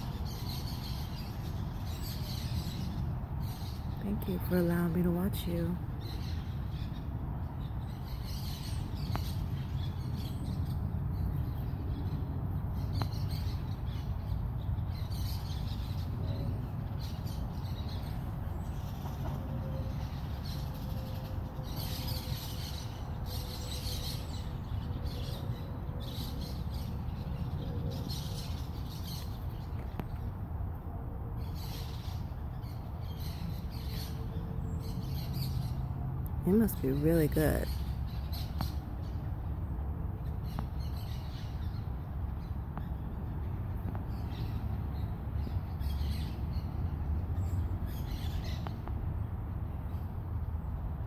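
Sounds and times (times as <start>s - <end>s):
birds chirping: 0.0s - 30.6s, 31.3s - 48.9s.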